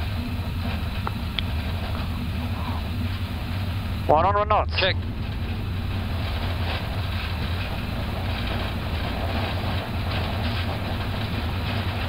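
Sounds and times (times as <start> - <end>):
jet engines low rumble: 0.0 - 12.0
wheels rolling on runway: 0.0 - 12.0.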